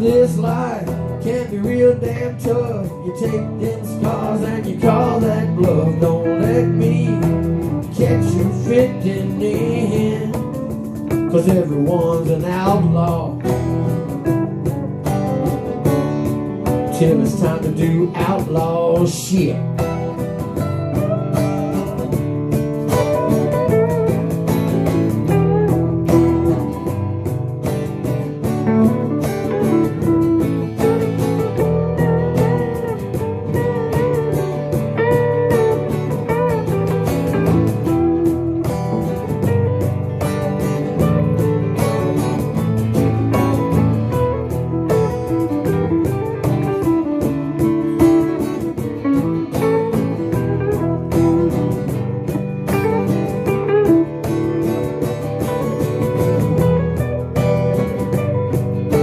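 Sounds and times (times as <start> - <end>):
band playing instrumental: 0.0 - 59.0
sliding lead melody: 0.0 - 59.0
strummed acoustic guitars: 0.0 - 59.0.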